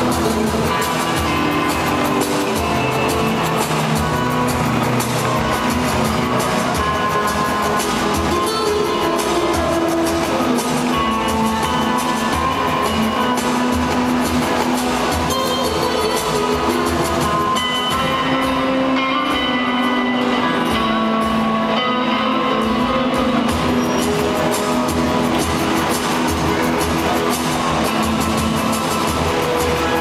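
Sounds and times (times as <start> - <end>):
music over loudspeakers: 0.0 - 30.0.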